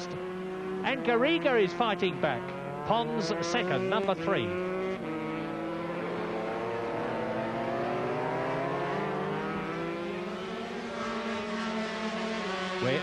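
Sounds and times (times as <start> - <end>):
racing motorcycle engines at high revs: 0.0 - 13.0.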